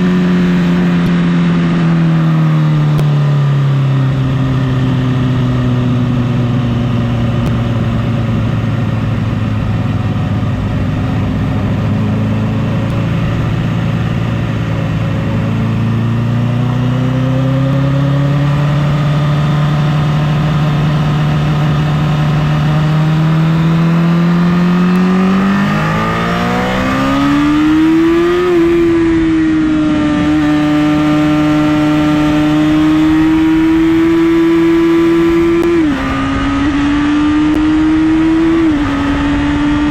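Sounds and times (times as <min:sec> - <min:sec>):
motorcycle engine accelerating: 0:00.0 - 0:39.9
wind noise: 0:03.7 - 0:39.9.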